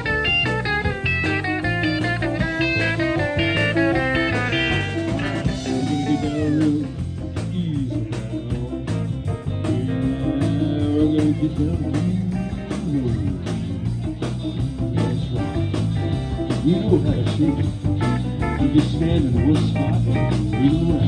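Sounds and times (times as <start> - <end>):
bass line: 0.0 - 21.0
drum kit beat: 0.0 - 21.0
electric guitar lead: 0.0 - 21.0.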